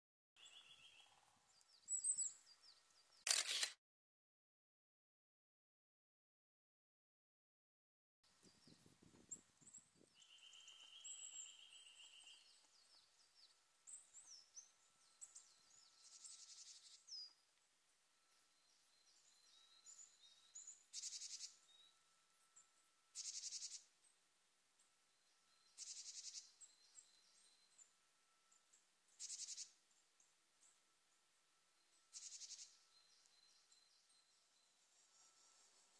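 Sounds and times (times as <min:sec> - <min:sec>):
songbird chirps and trills: 0:00.4 - 0:03.4, 0:08.3 - 0:35.9.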